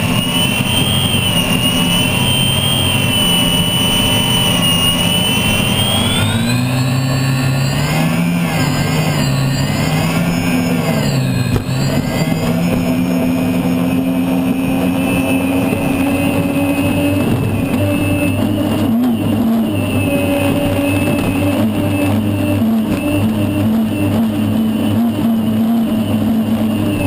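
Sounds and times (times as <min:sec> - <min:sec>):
boat turbine engine running: 0:00.0 - 0:27.0.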